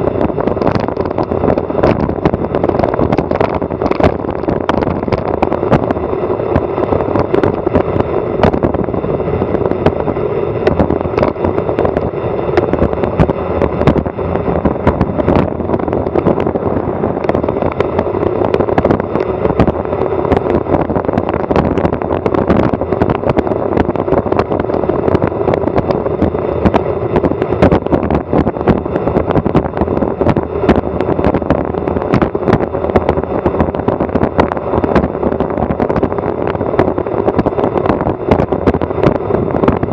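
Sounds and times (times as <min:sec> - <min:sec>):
bike and mount rattling: 0:00.0 - 0:39.9
wind roaring over microphone: 0:00.0 - 0:39.9.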